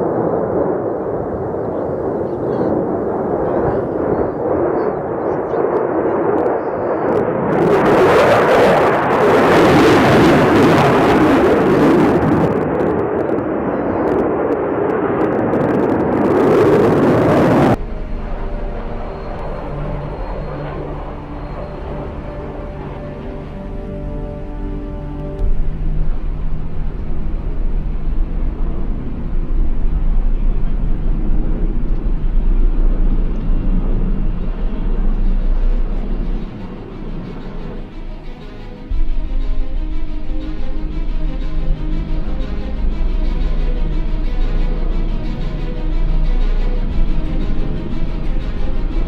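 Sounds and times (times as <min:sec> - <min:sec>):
fighter jet engines roaring: 0:00.0 - 0:49.0.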